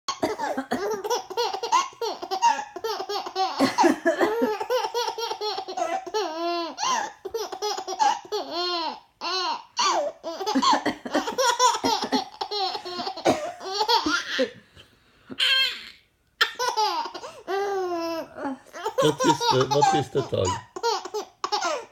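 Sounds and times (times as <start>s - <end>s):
baby laughing: 0.3s - 14.6s, 15.4s - 21.9s.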